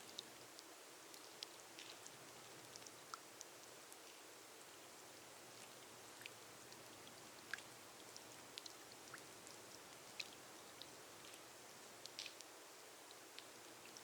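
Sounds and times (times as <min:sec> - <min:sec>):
rain on a glass roof: 0:00.0 - 0:14.0.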